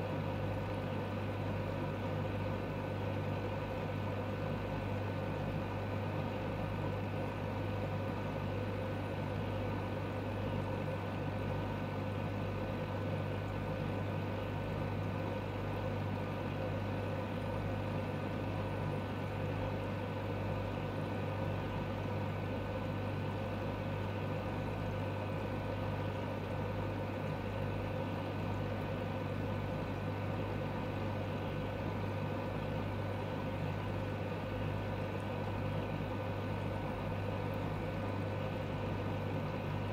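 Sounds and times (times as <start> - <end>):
low electric hum: 0.0 - 39.9.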